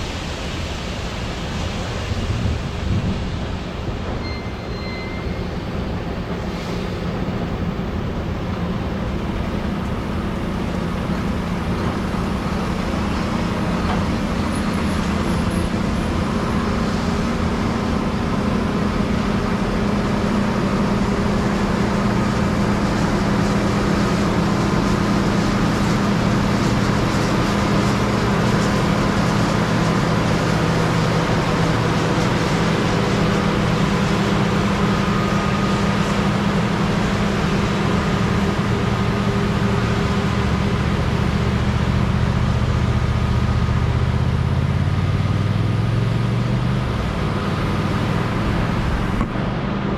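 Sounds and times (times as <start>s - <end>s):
diesel engine drone: 0.0s - 49.9s.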